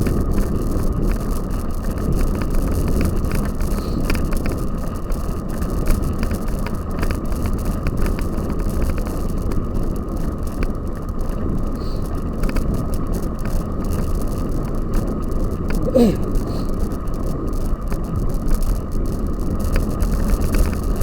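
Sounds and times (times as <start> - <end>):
bike rattling over rough ground: 0.0 - 21.0
wind and tyre rumble: 0.0 - 21.0.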